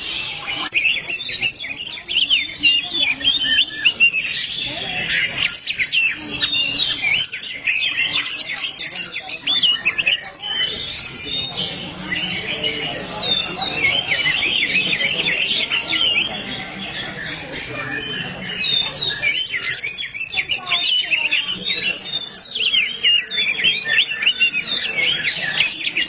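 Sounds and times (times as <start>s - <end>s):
birds singing whistled notes: 0.0s - 26.0s.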